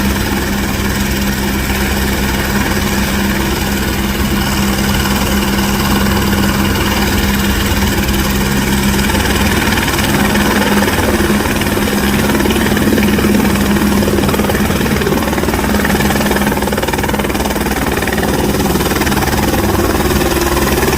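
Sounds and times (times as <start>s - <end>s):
helicopter running: 0.0s - 20.9s
turbine whine: 0.0s - 20.9s.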